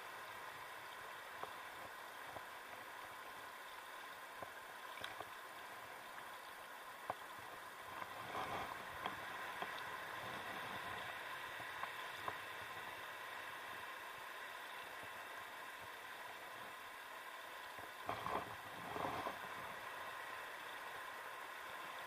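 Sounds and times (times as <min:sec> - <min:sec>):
river water flowing and lapping: 0:00.0 - 0:22.0.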